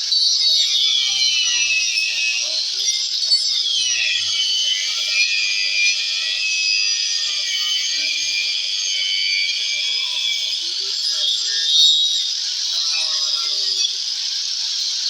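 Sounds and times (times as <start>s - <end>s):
electric grinder whining: 0.0s - 15.0s.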